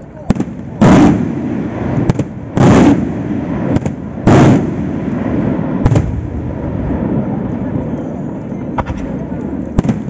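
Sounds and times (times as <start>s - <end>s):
sharp firework cracks: 0.2s - 7.1s, 8.7s - 10.0s
firework shells booming: 0.2s - 10.0s
rolling echo: 0.2s - 10.0s.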